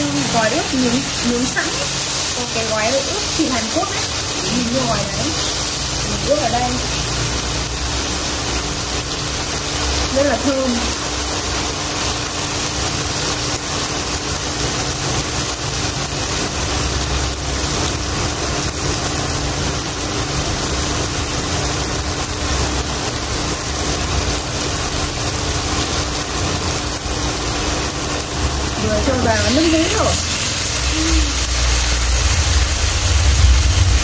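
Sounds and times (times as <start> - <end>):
meat sizzling in a frying pan: 0.0 - 34.0.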